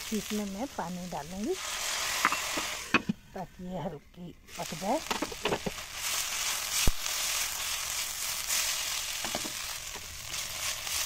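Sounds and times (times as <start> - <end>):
vegetables sizzling in a pan: 0.0 - 3.8, 4.4 - 11.0.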